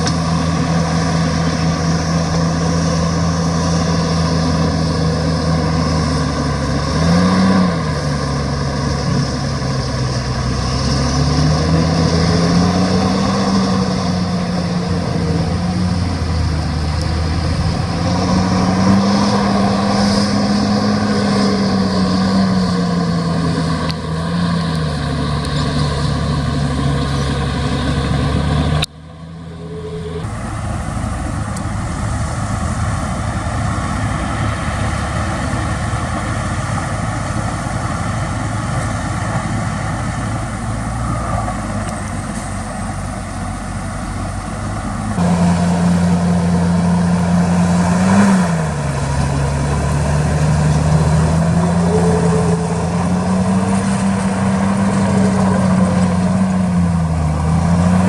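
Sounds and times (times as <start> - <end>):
engine revving up and down: 0.0 - 58.0
heavy diesel machinery running: 0.0 - 58.0.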